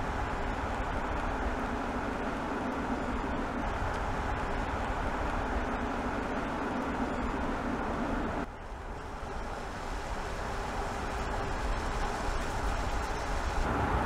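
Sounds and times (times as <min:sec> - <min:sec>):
tyre and wind noise: 0:00.0 - 0:14.0.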